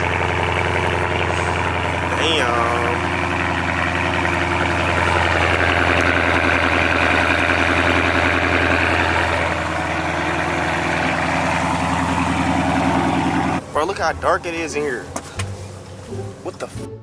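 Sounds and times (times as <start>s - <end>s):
car engine idling fast: 0.0s - 16.7s.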